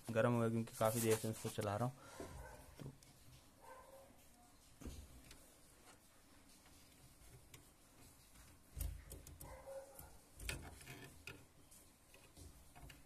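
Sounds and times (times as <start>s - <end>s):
faint ticks and knocks: 2.0s - 13.0s.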